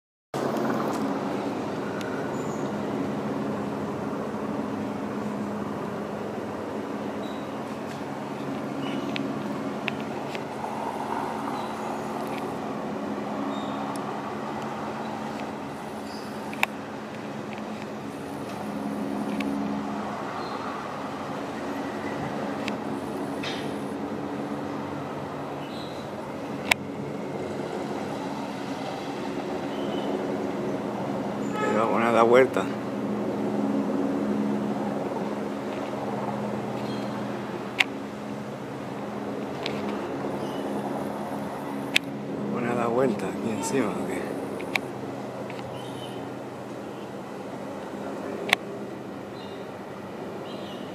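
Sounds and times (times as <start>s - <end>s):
helicopter flying overhead: 0.4s - 50.9s.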